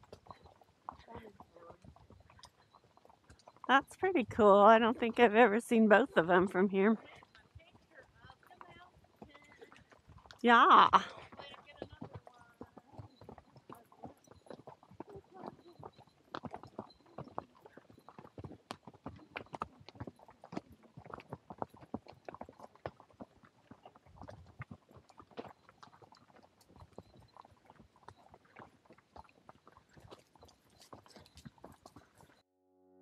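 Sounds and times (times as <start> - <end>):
horse hooves clip-clopping: 0.0 - 32.4.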